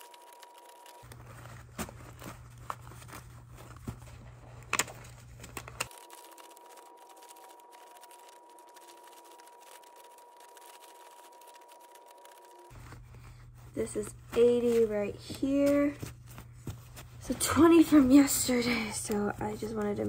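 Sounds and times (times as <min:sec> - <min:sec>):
paper bills snapping and rustling: 0:00.0 - 0:20.0.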